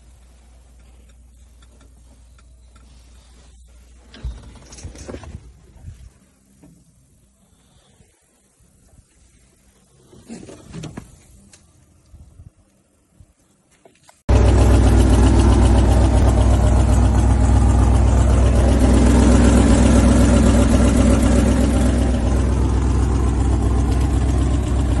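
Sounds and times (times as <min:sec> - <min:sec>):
engine rumbling: 0:00.0 - 0:12.2, 0:14.2 - 0:25.0.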